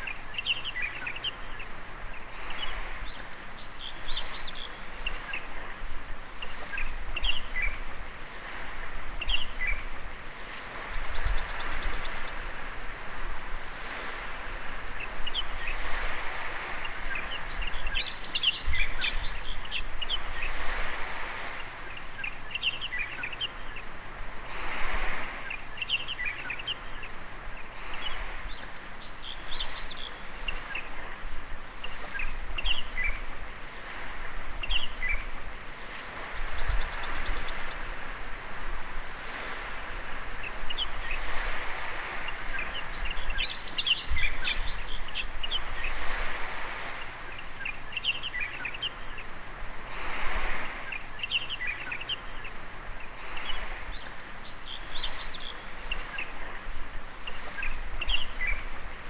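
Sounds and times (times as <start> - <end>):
birds chirping: 0.0 - 13.1, 13.8 - 24.0, 25.0 - 38.4, 39.2 - 59.0
small waves washing onto sand: 0.0 - 59.0.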